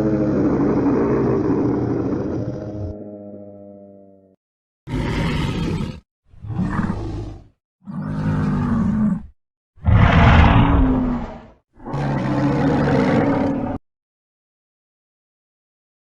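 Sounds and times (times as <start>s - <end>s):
dinosaur roars: 0.0s - 4.3s, 4.9s - 13.8s.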